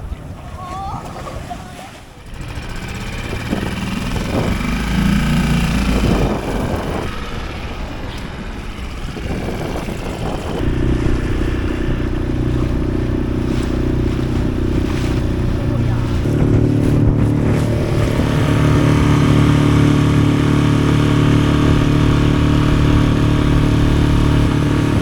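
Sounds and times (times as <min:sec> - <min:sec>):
outboard motor revving: 0:02.1 - 0:25.0.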